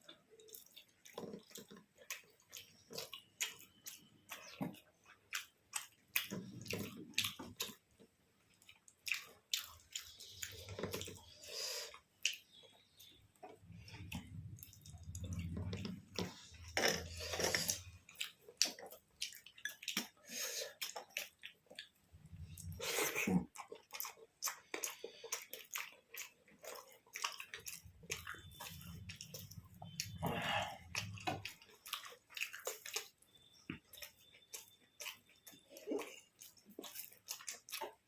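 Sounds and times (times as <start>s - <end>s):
wet chewing and lip smacking: 0.0s - 38.0s.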